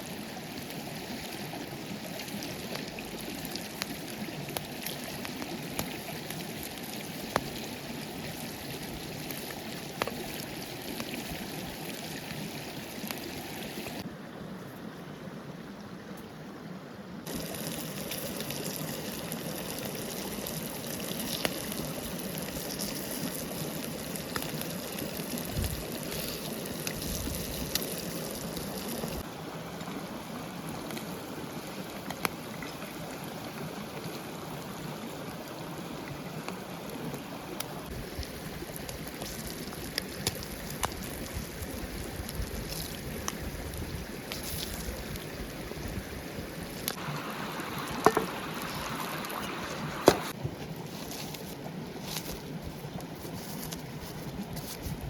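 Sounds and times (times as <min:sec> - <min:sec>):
forest stream flowing: 0:00.0 - 0:55.0.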